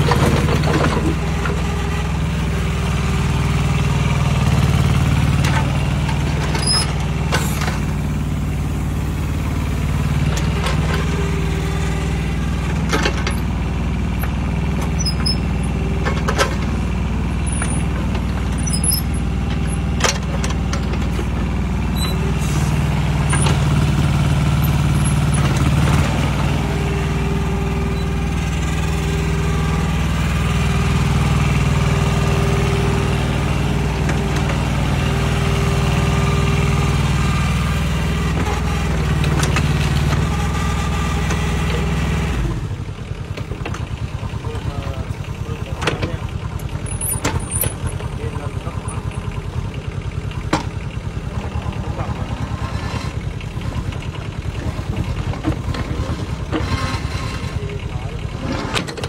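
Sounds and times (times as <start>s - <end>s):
mini excavator diesel engine: 0.0s - 59.0s.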